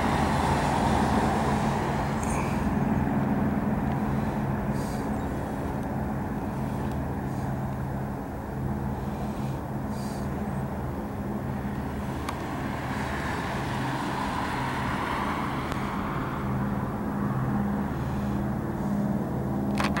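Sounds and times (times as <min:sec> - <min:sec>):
propeller planes flying past: 0:00.0 - 0:20.0.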